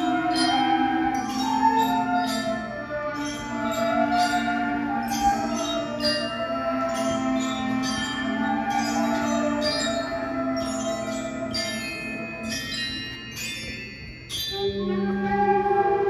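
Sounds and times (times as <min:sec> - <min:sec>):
ringing struck notes: 0:00.0 - 0:15.7
school concert band playing: 0:00.0 - 0:16.0.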